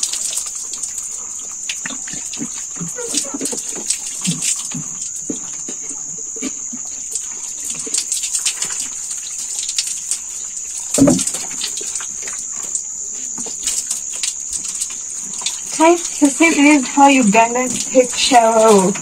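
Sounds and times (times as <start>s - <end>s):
water splashing on concrete floor: 0.0s - 19.0s.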